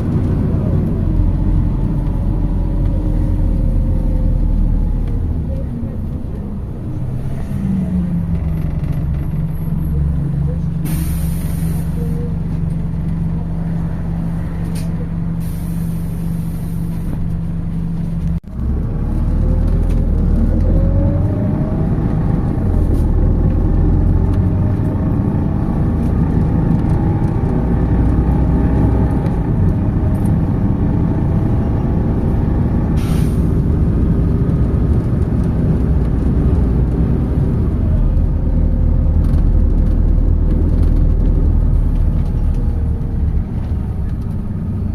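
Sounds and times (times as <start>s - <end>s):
bus engine hum: 0.0s - 44.9s
engine and transmission whine: 0.0s - 44.9s.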